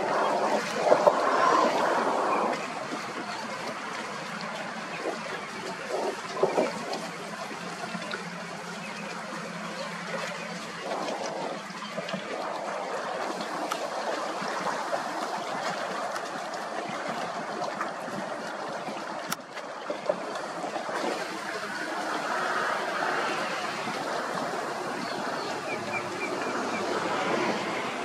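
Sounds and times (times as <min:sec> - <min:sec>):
shallow water lapping at shoreline: 0:00.0 - 0:28.0.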